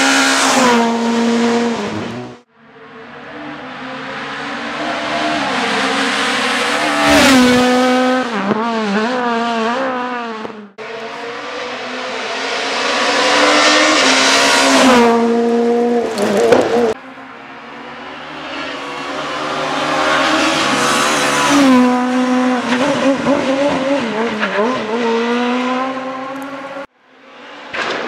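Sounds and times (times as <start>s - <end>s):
rally cars racing past: 0.0s - 28.0s.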